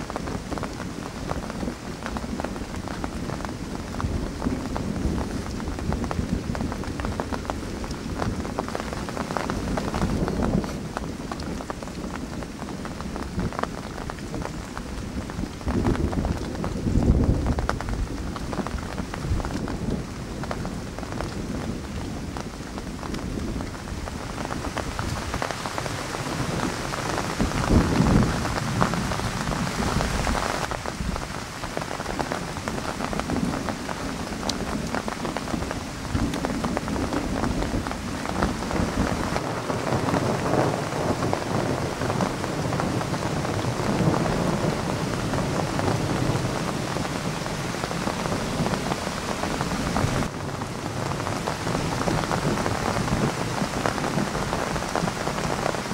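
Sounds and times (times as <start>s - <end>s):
low rolling thunder: 0.0s - 55.9s
rain pattering: 0.0s - 55.9s.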